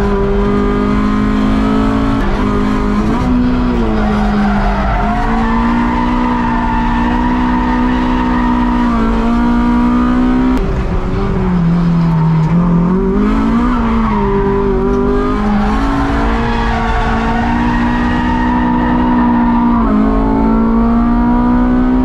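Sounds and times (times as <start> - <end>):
car engine revving through gears: 0.0 - 22.0.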